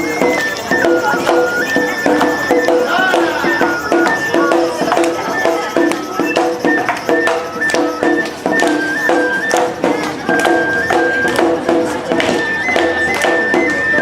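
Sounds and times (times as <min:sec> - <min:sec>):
bamboo flute melody: 0:00.0 - 0:14.0
drum beat: 0:00.0 - 0:14.0.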